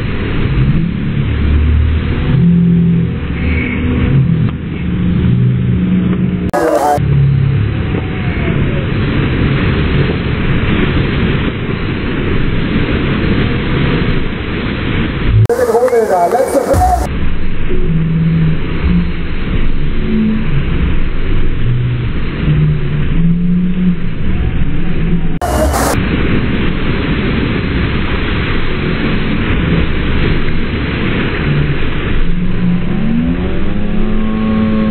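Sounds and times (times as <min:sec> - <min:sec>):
churning white water rushing: 0:00.0 - 0:34.9
low hum: 0:00.0 - 0:34.9.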